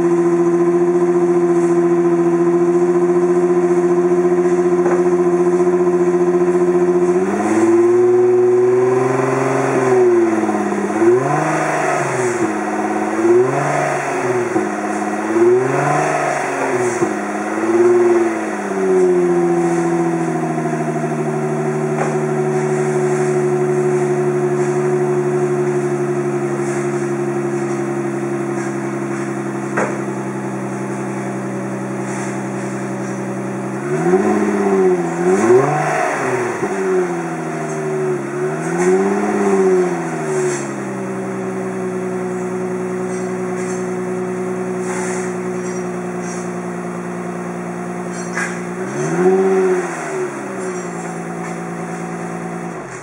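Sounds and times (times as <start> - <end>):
car engine idling: 0.0 - 53.0
engine revving: 0.0 - 53.0.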